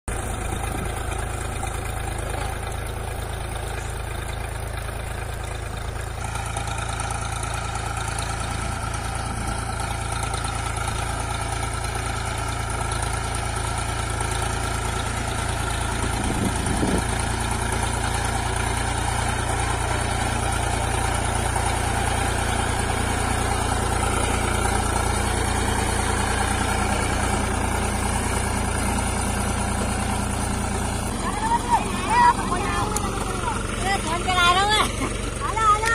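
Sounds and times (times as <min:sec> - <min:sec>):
tractor diesel engine running: 0:00.1 - 0:35.9.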